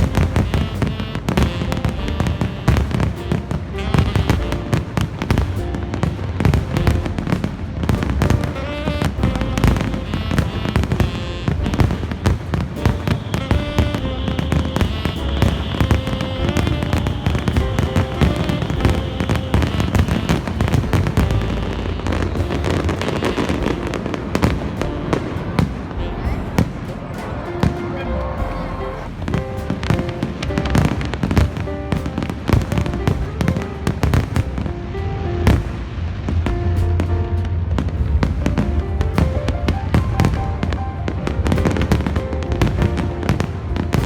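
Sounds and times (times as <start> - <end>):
fireworks bangs and crackles: 0.0 - 44.0
music with held notes: 0.0 - 44.0.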